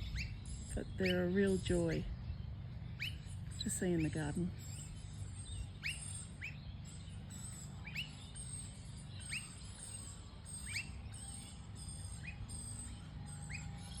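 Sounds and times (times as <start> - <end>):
bird whistled call: 0.0 - 2.0, 3.0 - 14.0.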